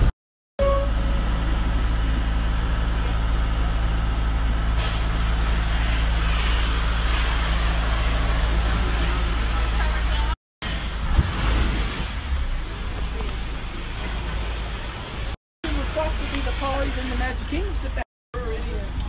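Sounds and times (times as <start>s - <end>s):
boat engine drone: 0.0s - 19.0s.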